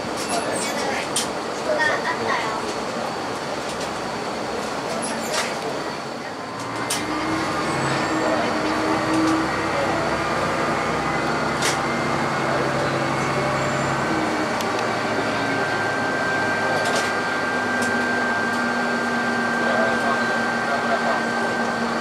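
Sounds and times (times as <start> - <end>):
railcar engine drone: 0.0 - 22.0.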